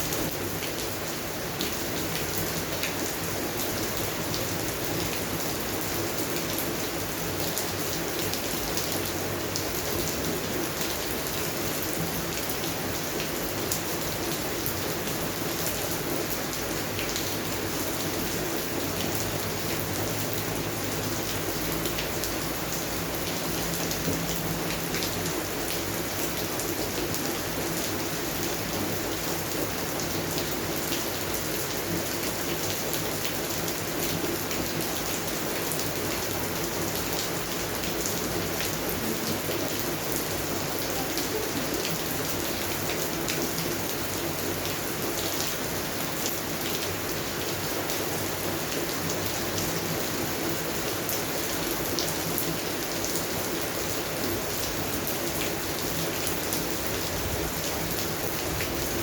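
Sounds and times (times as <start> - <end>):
rain falling on plants: 0.0 - 59.0.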